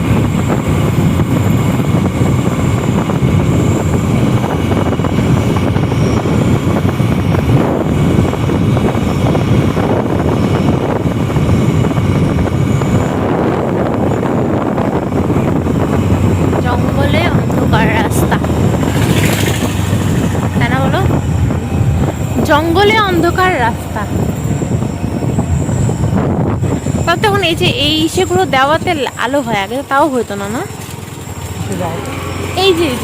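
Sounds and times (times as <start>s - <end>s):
motorcycle engine running: 0.0s - 33.0s
road noise: 0.0s - 33.0s
wind rush: 0.0s - 33.0s.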